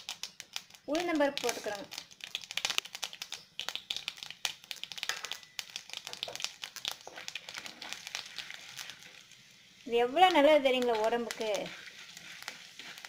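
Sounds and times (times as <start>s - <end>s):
seeds crackling in hot oil: 0.0s - 13.0s.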